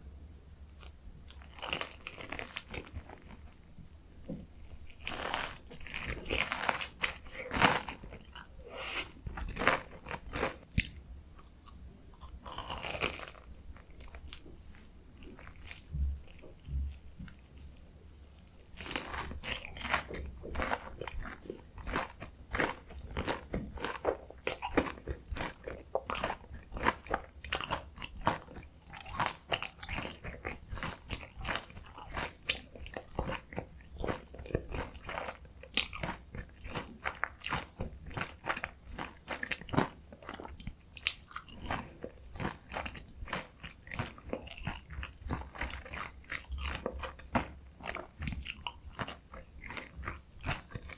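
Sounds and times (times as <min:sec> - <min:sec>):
crunching and chewing: 0:00.7 - 0:03.6, 0:04.5 - 0:50.9.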